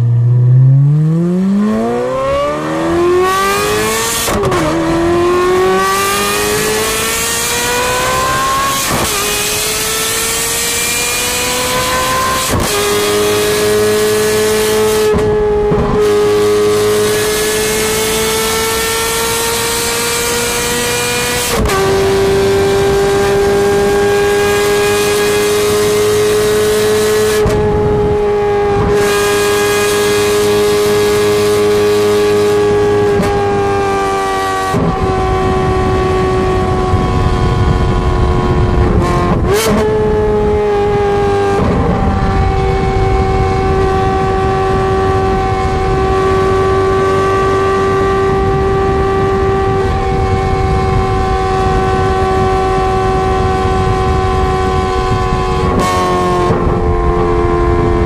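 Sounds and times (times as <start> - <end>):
sports car engine revving: 0.0 - 58.0.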